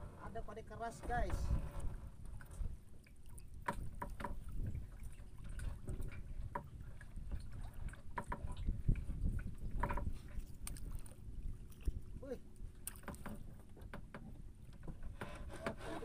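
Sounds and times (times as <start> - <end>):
low rumble of wind and water: 0.0 - 16.0.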